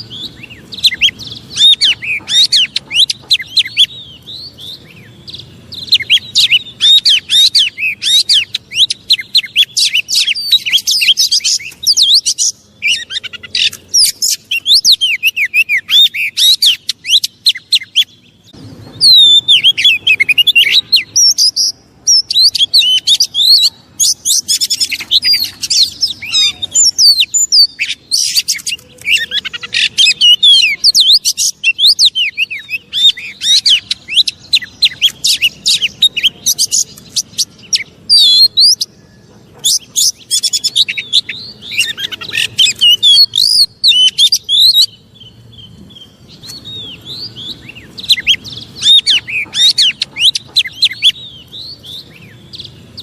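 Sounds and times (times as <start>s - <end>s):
bird singing chirps and whistles: 0.0s - 53.0s.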